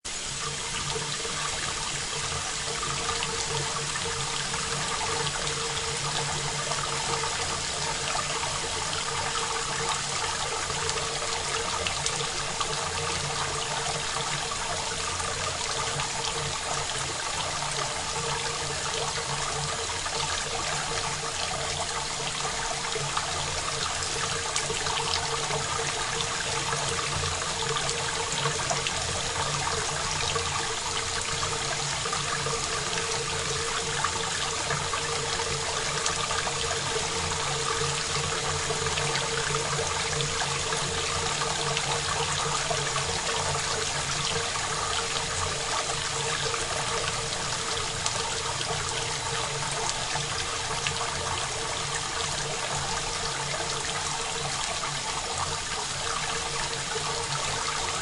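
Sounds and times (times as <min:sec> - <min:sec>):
faint steady hum: 0:00.0 - 0:58.0
steady rain patter: 0:00.1 - 0:58.0.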